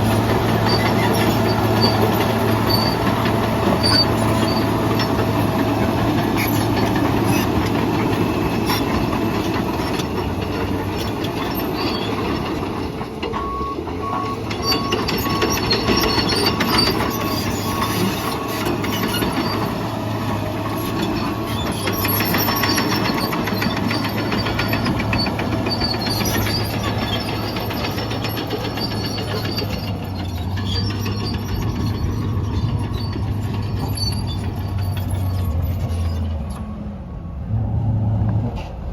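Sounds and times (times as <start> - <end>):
steel tracks clattering and squealing: 0.0 - 37.0
diesel engine running under load: 0.0 - 38.9.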